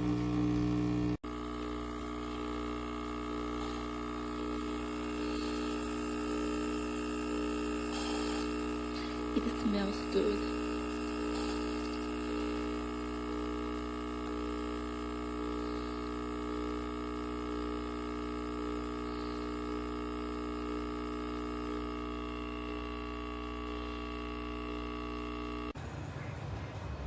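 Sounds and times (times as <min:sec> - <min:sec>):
espresso machine pump humming: 0:00.0 - 0:25.8.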